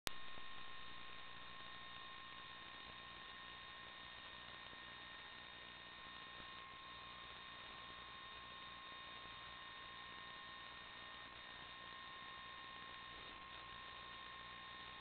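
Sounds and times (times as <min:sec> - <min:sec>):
thin whine tones: 0:00.1 - 0:15.0.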